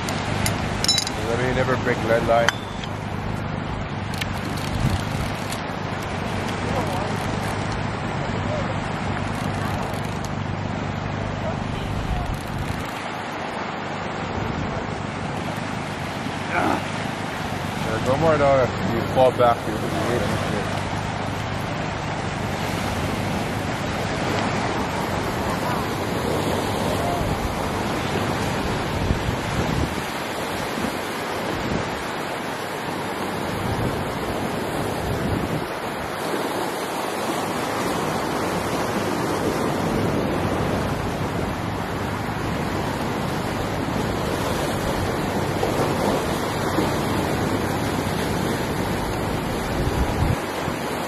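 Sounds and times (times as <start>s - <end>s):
wind on microphone: 0.0s - 18.1s, 18.7s - 51.0s
ocean surf washing ashore: 0.0s - 51.0s.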